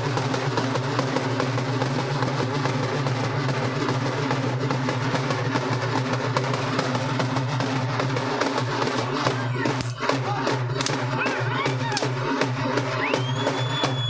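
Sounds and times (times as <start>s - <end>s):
barrel drums beaten with sticks: 0.0s - 14.0s.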